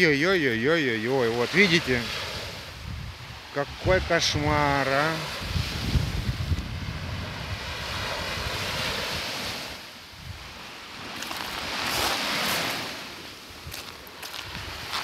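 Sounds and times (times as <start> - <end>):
small waves lapping on beach: 0.0 - 15.0
wind on microphone: 1.4 - 15.0.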